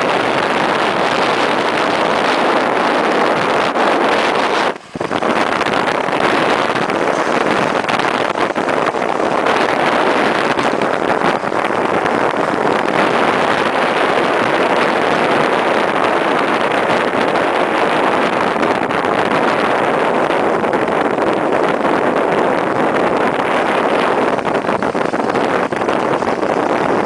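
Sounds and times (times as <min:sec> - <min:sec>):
sled runners scraping snow: 0:00.0 - 0:18.8, 0:21.5 - 0:27.0
wind on microphone: 0:00.0 - 0:27.0.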